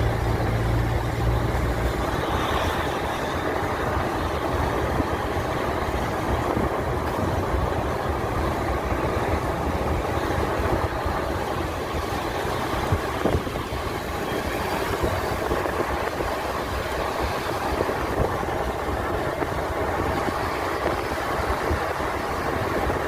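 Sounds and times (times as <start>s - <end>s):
vehicle rumble from on board: 0.0s - 23.0s.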